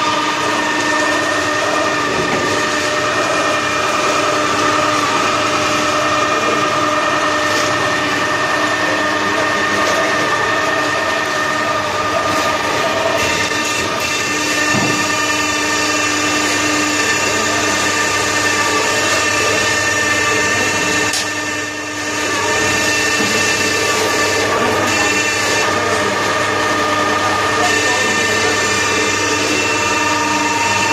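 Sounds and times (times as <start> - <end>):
feed mixer running with whine: 0.0 - 30.9.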